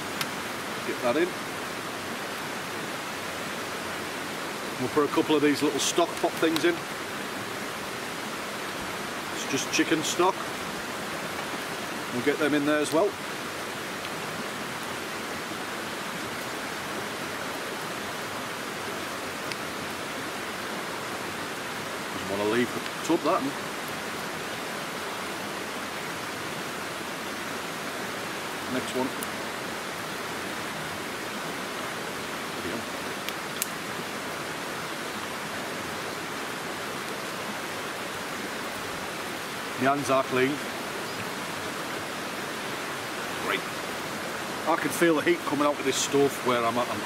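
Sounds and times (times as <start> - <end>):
river rushing: 0.0 - 47.0
stream flowing over rocks: 0.0 - 47.0.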